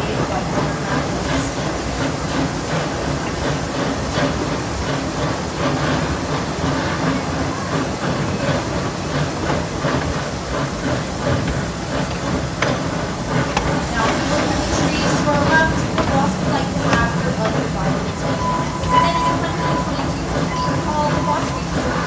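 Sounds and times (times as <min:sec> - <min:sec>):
steam hiss: 0:00.0 - 0:22.0
train wheels clacking over rail joints: 0:00.0 - 0:22.0.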